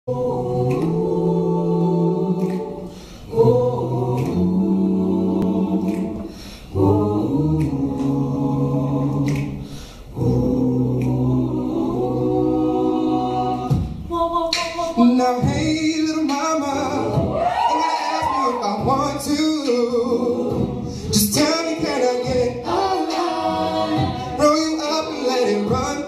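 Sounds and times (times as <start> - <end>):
a cappella group singing chords: 0.0 - 26.0.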